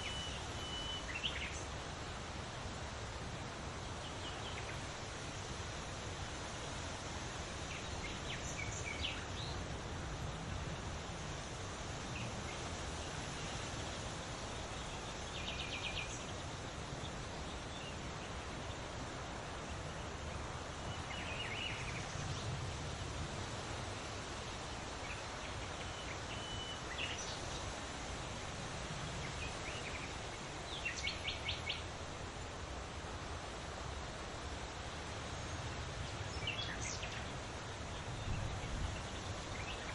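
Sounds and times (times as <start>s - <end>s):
natural background hiss: 0.0s - 39.9s.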